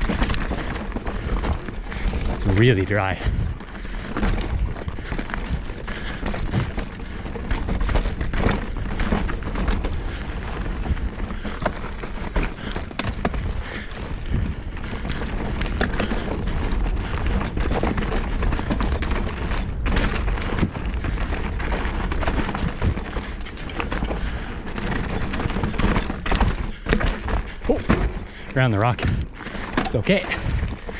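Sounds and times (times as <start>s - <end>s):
bike clattering over bumps: 0.0s - 30.9s
tyre and wind rushing: 0.0s - 30.9s.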